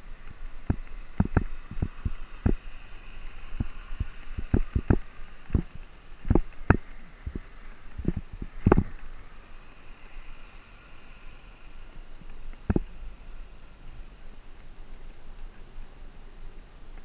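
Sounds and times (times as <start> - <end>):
low rolling rumble: 0.0 - 17.0.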